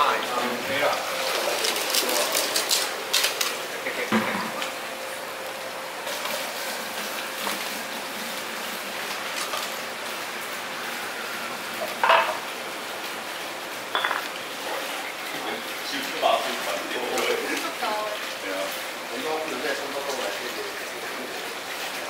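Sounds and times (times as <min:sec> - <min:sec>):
fish market background noise: 0:00.0 - 0:22.0.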